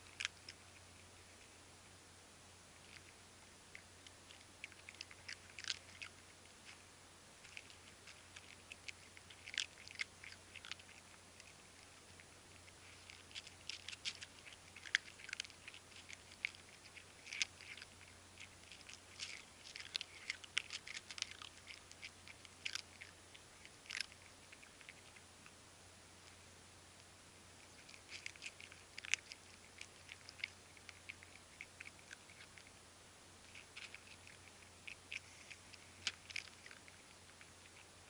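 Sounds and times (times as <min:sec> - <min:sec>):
cats chewing food: 0:00.0 - 0:38.0.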